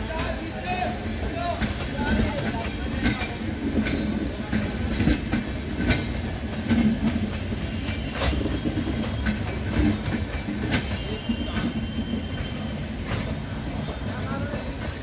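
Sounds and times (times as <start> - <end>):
train coaches rumbling past: 0.0 - 15.0
wheels clacking over rail joints: 0.0 - 15.0.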